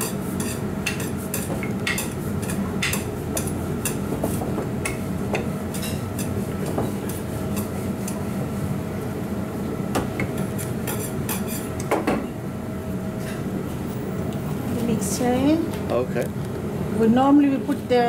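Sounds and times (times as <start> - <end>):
kitchen hum: 0.0 - 18.0.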